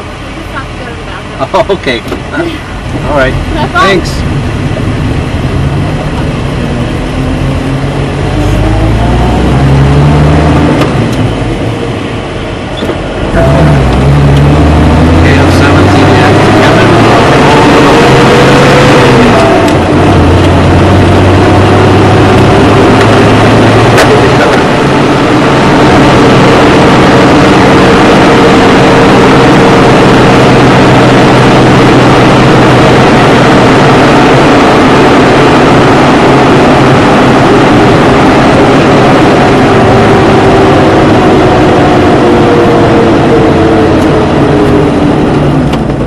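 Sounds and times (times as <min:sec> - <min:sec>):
engine and road noise in cab: 0:00.0 - 0:46.0.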